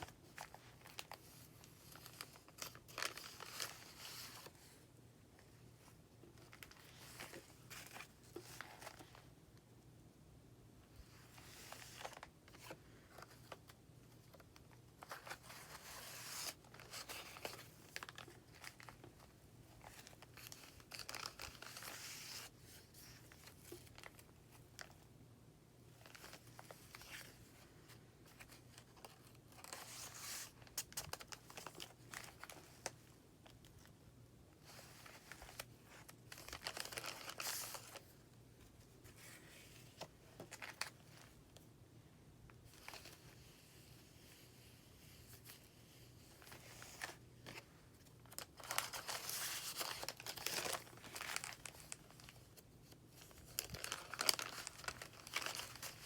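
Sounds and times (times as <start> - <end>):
paper pages rustling: 0.0 - 4.8, 5.4 - 9.3, 11.0 - 25.0, 26.0 - 33.9, 34.6 - 41.4, 42.6 - 56.0.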